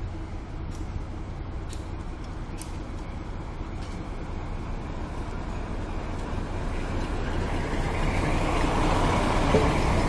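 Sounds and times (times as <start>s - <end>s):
locomotive engine rumbling: 0.0s - 10.0s
train wheels rolling on rails: 0.0s - 10.0s.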